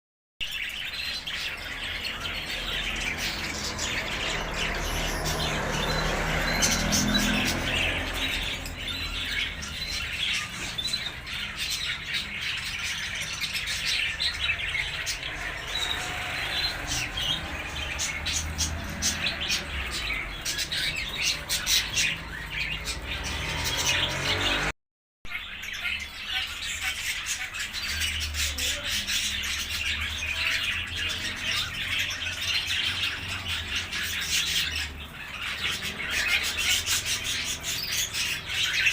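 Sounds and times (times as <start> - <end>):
small birds chirping: 0.4 - 24.7, 25.3 - 38.9.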